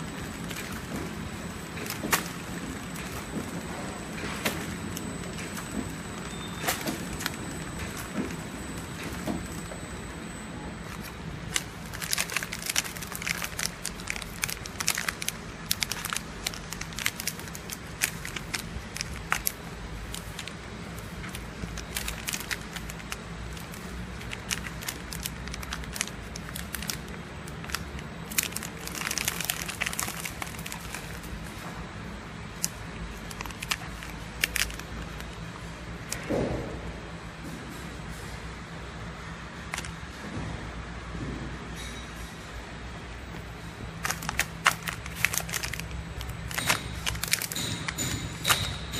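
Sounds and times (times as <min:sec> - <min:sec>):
plastic film crinkling: 0:00.0 - 0:09.7, 0:10.8 - 0:31.6, 0:32.5 - 0:36.3, 0:43.5 - 0:48.9
packing machine humming: 0:00.0 - 0:41.2, 0:42.6 - 0:48.9.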